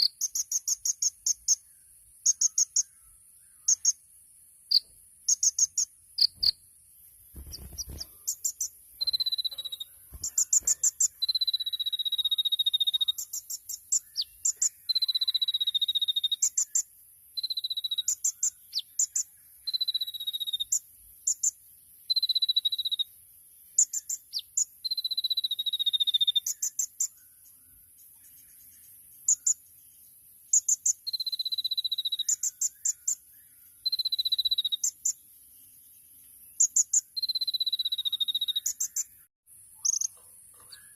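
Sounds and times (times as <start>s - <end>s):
sunbird singing: 0.0s - 40.9s.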